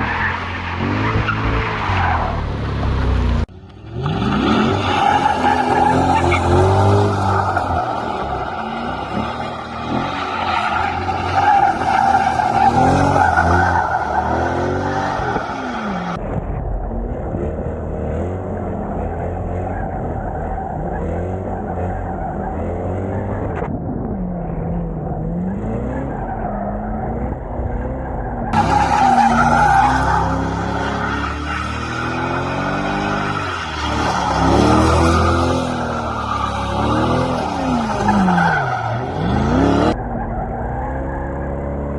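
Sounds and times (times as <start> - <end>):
tires squealing: 0.0 - 16.2, 18.1 - 23.7, 25.0 - 41.9
car engine revving: 0.0 - 41.9.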